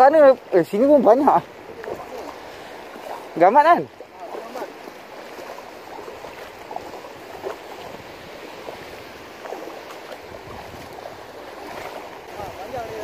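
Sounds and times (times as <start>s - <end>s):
feet sloshing through water: 0.0s - 13.0s
surf washing: 0.0s - 13.0s
wind: 0.0s - 13.0s.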